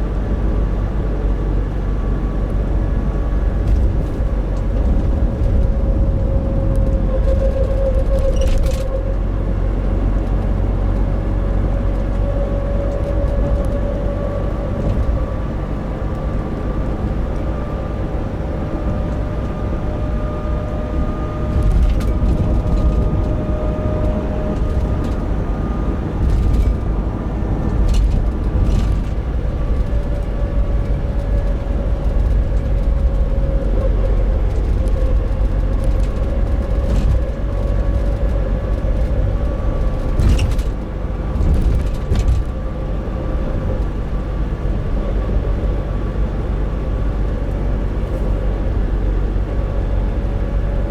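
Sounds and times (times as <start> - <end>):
van road and drivetrain rumble: 0.0 - 50.9.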